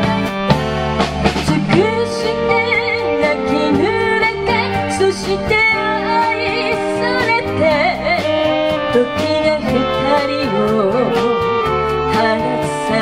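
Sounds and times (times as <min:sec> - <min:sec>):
live band playing slow song: 0:00.0 - 0:13.0
saxophones: 0:00.0 - 0:13.0
woman singing with vibrato: 0:01.4 - 0:13.0.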